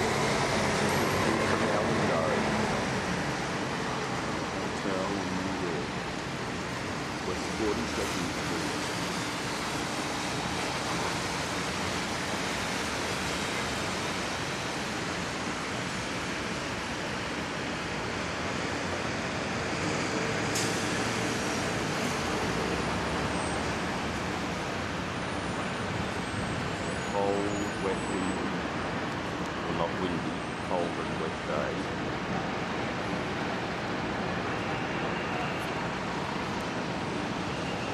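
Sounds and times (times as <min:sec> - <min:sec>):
city traffic noise: 0:00.0 - 0:37.9.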